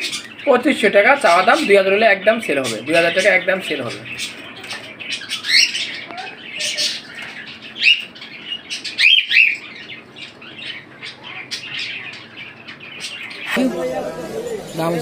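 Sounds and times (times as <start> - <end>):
chatter of many birds: 0.0 - 15.0.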